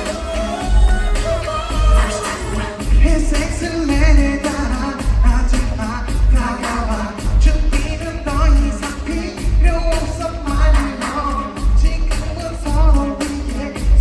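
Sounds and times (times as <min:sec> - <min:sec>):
heavy bass beat: 0:00.0 - 0:14.0
man singing pop song: 0:00.0 - 0:14.0.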